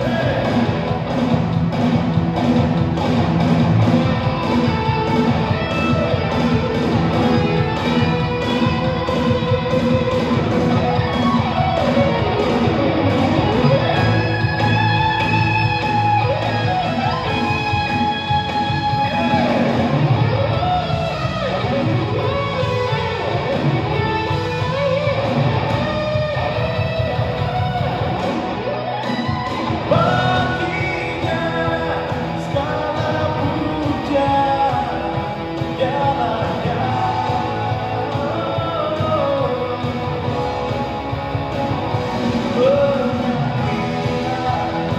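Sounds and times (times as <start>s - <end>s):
bass line: 0.0s - 44.9s
guitar: 0.0s - 44.9s
live band playing worship song: 0.0s - 44.9s.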